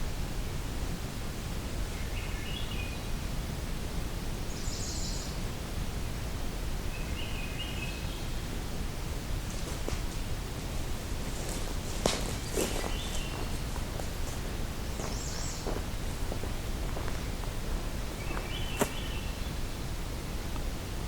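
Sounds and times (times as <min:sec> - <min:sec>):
low outdoor rumble: 0:00.0 - 0:21.0
faint bird song: 0:01.3 - 0:03.3, 0:04.3 - 0:20.6.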